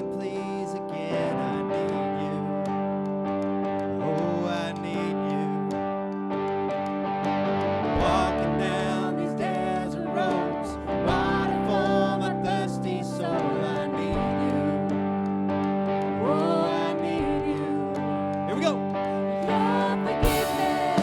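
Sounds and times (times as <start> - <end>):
guitar playing: 0.0 - 21.0.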